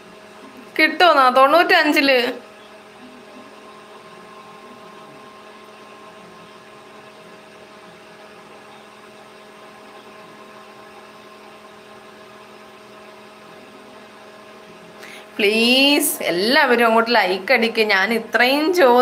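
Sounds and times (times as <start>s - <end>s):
electrical hum: 0.0s - 19.0s
faint whirring hiss: 0.0s - 19.0s.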